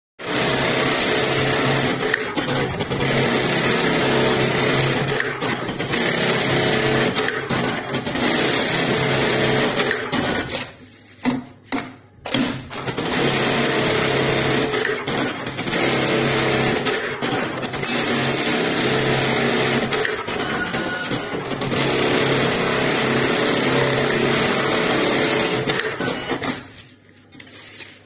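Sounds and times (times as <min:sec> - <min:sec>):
sewing machine whirring: 0:00.2 - 0:10.6, 0:12.3 - 0:26.8.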